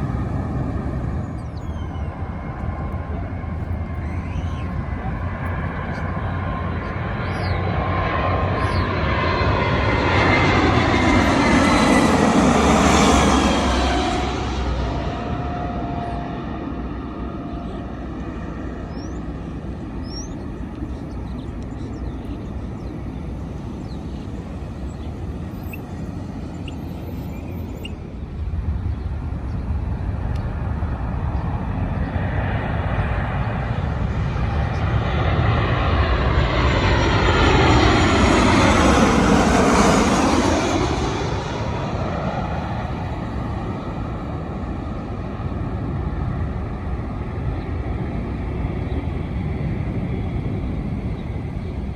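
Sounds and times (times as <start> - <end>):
jet airliner passing overhead: 0.0 - 51.9.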